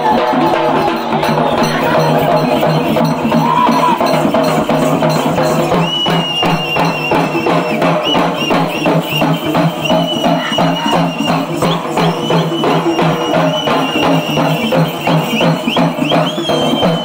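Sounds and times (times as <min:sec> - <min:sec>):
rapid drum beats: 0:00.0 - 0:17.0.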